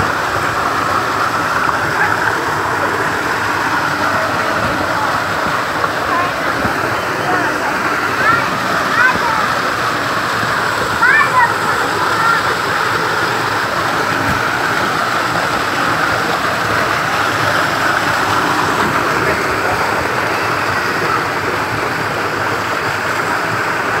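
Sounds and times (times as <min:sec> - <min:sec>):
waterfall splashing onto rocks: 0:00.0 - 0:24.0.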